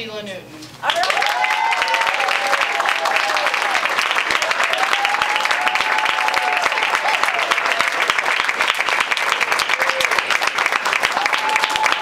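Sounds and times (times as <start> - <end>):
audience clapping: 0.8 - 12.0.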